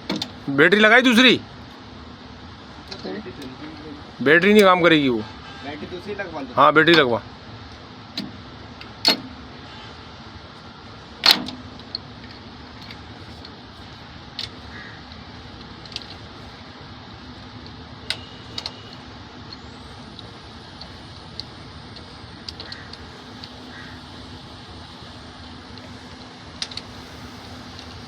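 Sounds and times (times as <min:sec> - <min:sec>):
steady background hiss: 0:00.0 - 0:28.0.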